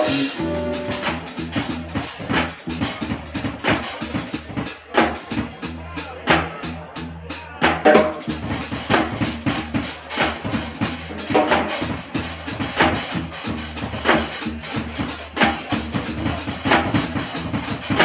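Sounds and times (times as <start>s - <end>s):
drum kits playing a groove: 0.0s - 18.0s
electric bass guitar: 0.0s - 18.0s.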